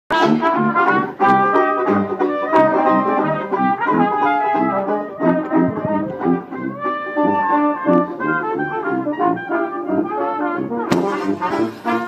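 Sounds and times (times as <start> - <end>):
sousaphone bass notes: 0.1 - 9.1, 10.8 - 12.0
strummed banjo: 0.1 - 9.5, 10.1 - 12.0
clarinet: 0.1 - 12.0
trombone: 0.1 - 12.0
trumpet: 0.1 - 12.0.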